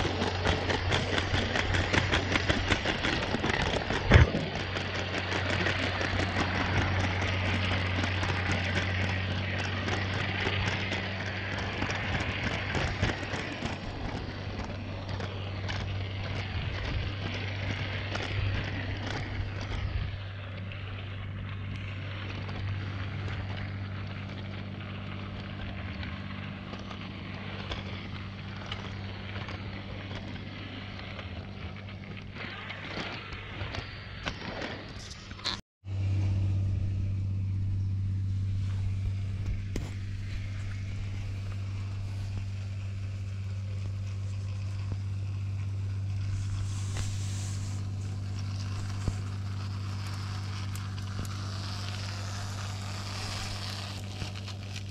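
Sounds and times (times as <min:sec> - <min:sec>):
toy train motor hum: 0:00.0 - 0:35.6, 0:37.1 - 0:54.9
wheels clicking and rattling: 0:00.0 - 0:35.6, 0:36.2 - 0:54.9.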